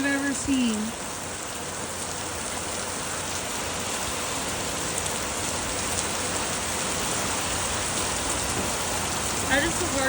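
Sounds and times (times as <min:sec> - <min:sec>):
heavy rain splashing on ground: 0:00.0 - 0:10.0.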